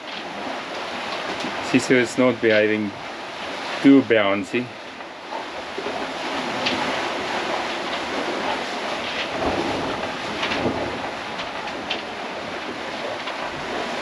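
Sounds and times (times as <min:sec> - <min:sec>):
small wave splashes: 0:00.0 - 0:14.0
water rushing along hulls: 0:00.0 - 0:14.0.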